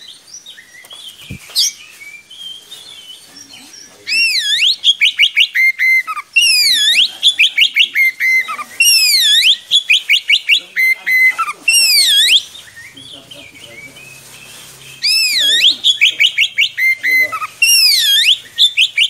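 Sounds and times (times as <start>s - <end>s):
bird singing whistles: 0.0s - 19.0s.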